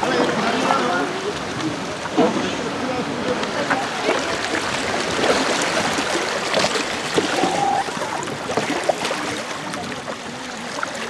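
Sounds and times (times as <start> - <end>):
paddles dipping into water: 0.0 - 11.0
river water rushing over rapid: 0.0 - 11.0.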